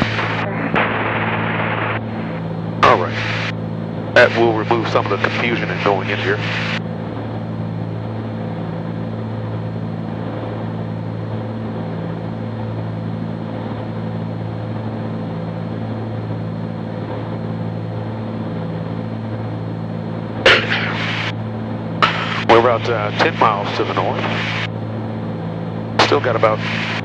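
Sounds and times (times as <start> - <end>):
propeller plane cabin drone: 0.0 - 27.0.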